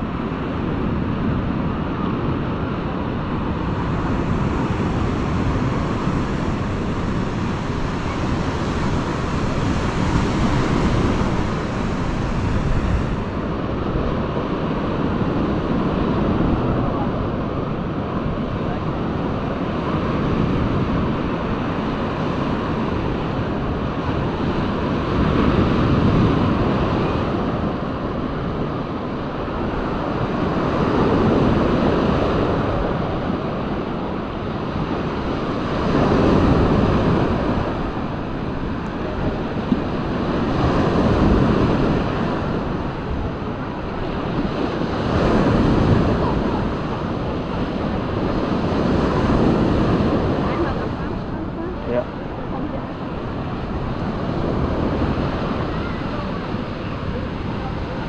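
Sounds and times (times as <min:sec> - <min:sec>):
waves breaking on sandy beach: 0:00.0 - 0:58.0
wind on microphone: 0:00.0 - 0:58.0.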